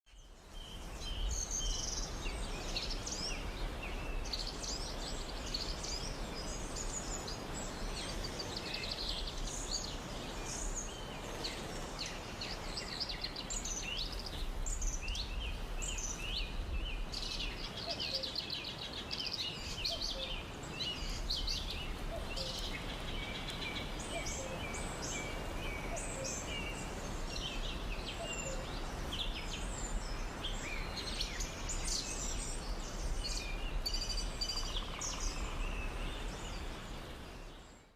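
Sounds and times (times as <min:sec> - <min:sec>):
birds singing and chirping: 0:00.1 - 0:37.9.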